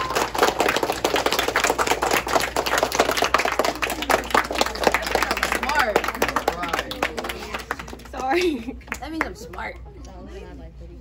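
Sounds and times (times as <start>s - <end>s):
many hands clapping: 0.0s - 9.9s.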